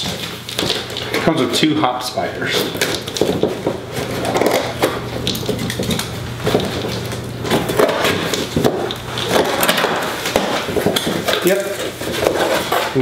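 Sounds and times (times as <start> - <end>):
cardboard scraping and crackling: 2.2 - 13.0.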